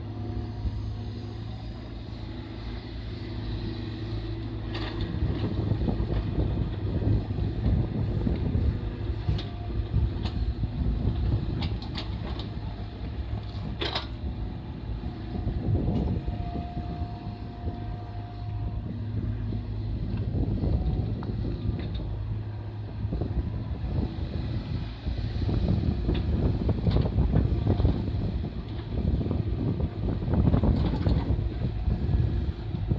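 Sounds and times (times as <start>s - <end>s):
excavator engine running: 0.0s - 32.9s.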